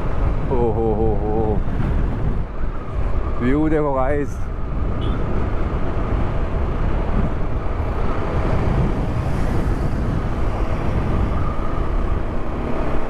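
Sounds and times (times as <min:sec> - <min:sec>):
wind rumbling over microphone: 0:00.0 - 0:13.0.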